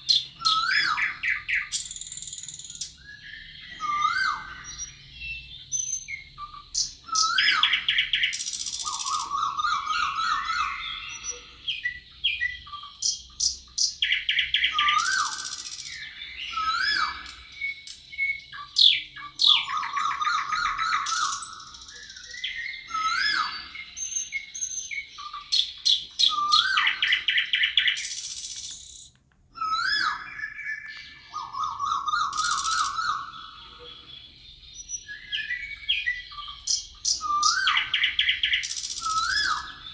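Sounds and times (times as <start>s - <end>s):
songbirds singing trills and whistles: 0.0s - 39.9s.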